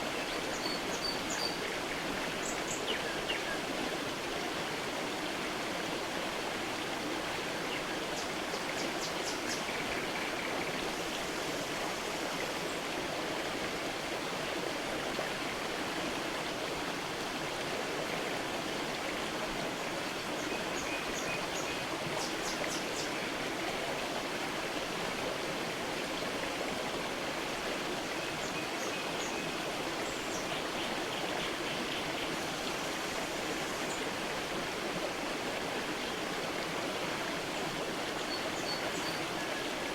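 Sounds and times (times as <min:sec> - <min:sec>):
creek water running over stones: 0:00.0 - 0:39.9.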